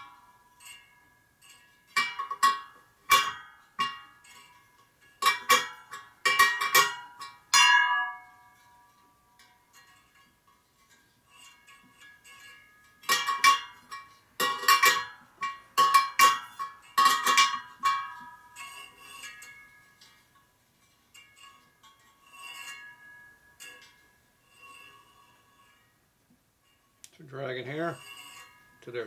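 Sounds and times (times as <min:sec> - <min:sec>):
wheel spokes clinking: 0:00.0 - 0:26.0, 0:26.6 - 0:29.0.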